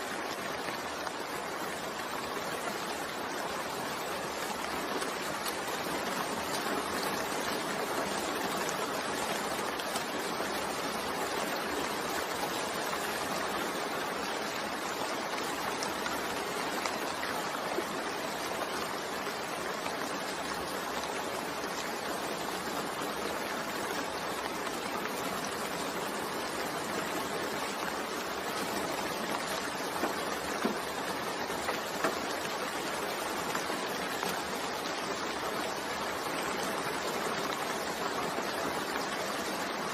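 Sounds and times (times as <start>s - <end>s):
faint drips and ticks: 0.0s - 39.9s
steady rain: 0.0s - 39.9s.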